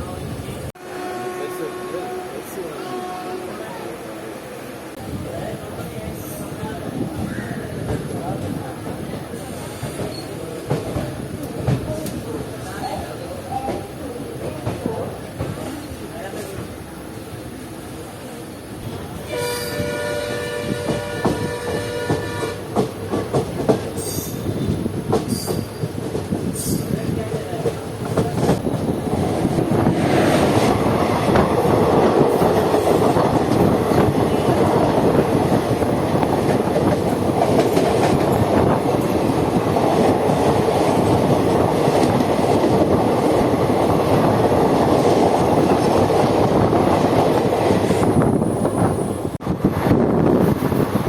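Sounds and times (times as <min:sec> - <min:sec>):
train wheels clattering on rails: 0:05.8 - 0:16.8, 0:18.8 - 0:51.0.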